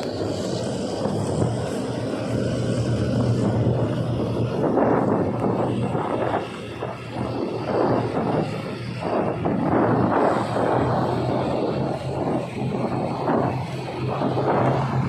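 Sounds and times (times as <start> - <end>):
rushing wind noise: 0.0 - 15.0
train rumble inside carriage: 0.0 - 15.0.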